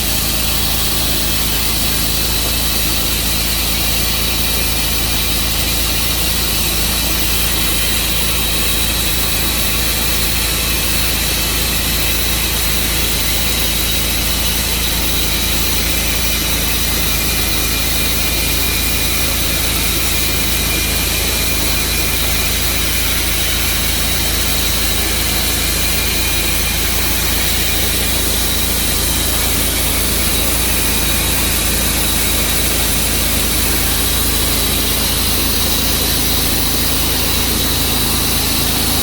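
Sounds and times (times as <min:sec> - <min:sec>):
sawmill engine running: 0:00.0 - 0:39.0.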